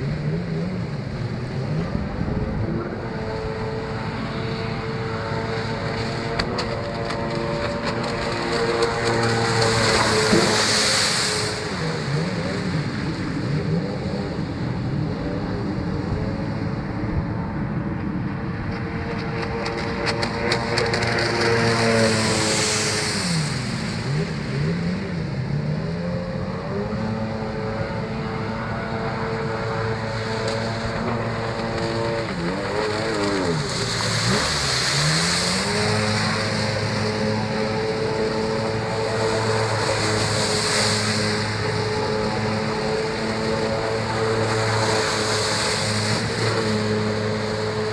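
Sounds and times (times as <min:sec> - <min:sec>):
personal watercraft engine: 0:00.0 - 0:47.9.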